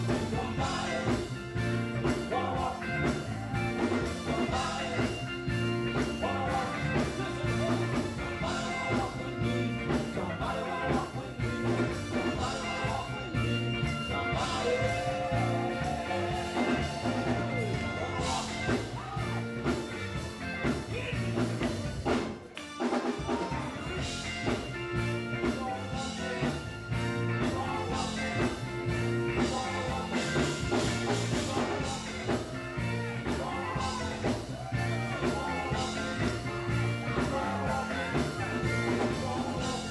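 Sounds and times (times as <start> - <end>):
male voices singing: 0.0 - 19.8, 23.2 - 39.9
drum kit: 0.0 - 39.9
electric guitar: 0.0 - 39.9
keyboard: 0.0 - 39.9.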